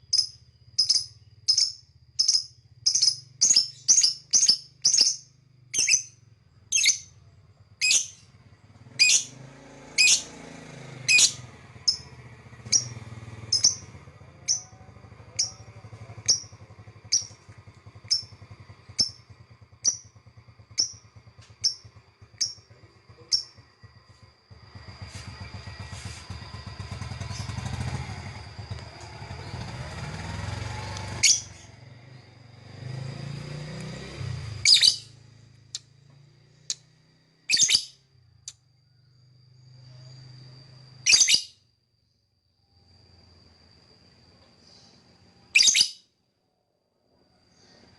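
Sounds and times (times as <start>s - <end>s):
bird chirping: 0.0s - 20.1s, 20.7s - 26.2s, 26.8s - 33.0s, 33.9s - 35.9s, 36.5s - 41.6s, 44.5s - 46.1s
low mechanical rumble: 0.0s - 45.6s.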